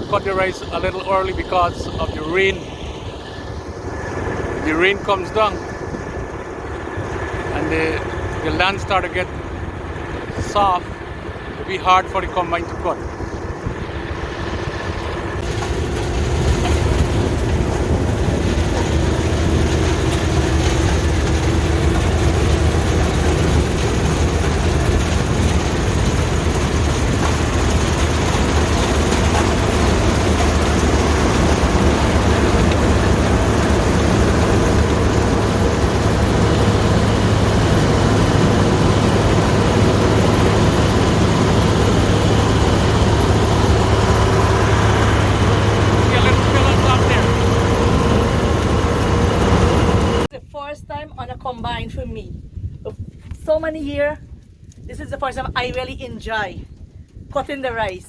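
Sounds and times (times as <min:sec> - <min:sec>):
combine harvester engine drone: 0:00.0 - 0:50.3
dense machine noise: 0:00.0 - 0:50.3.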